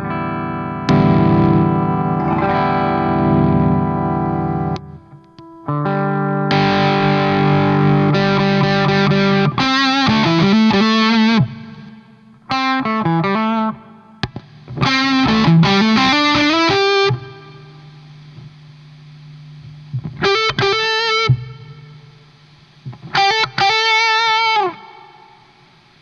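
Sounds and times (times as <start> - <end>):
distorted electric guitar: 0.0 - 26.0.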